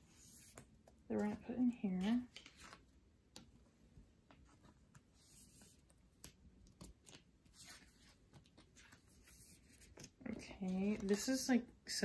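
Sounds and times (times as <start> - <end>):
postcards rustling and clicking: 0.0 - 11.5.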